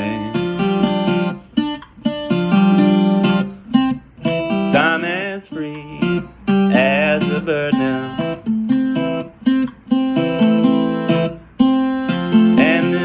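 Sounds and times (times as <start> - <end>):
acoustic guitar strummed chords: 0.0 - 13.0
guitar notes bending with vibrato: 0.0 - 13.0.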